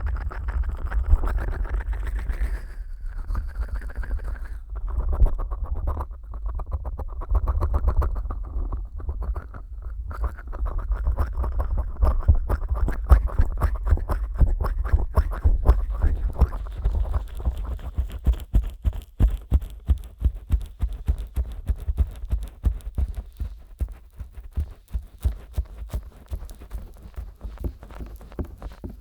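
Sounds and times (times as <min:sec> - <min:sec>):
fingers rubbing microphone: 0:01.0 - 0:29.0.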